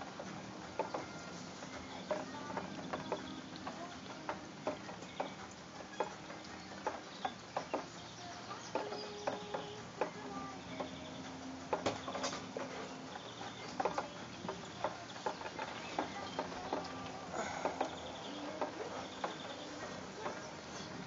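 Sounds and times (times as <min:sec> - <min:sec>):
raindrops striking a hard surface: 0:00.0 - 0:21.0.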